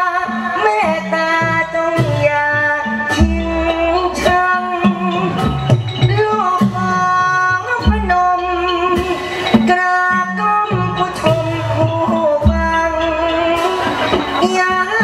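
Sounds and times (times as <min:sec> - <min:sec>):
drum strokes: 0:00.0 - 0:15.0
instrumental accompaniment: 0:00.0 - 0:15.0
man singing amplified: 0:00.0 - 0:15.0.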